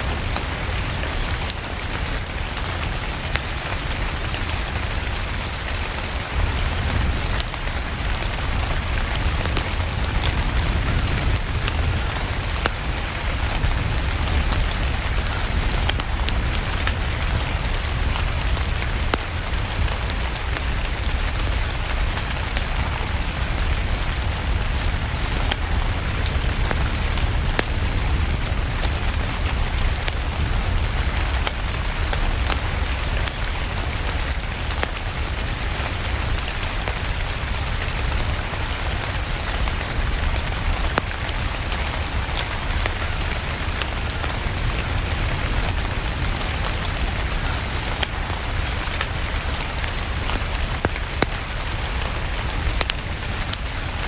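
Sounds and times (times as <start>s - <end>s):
steady rain falling: 0.0s - 54.0s
wood fire crackling: 0.0s - 54.0s.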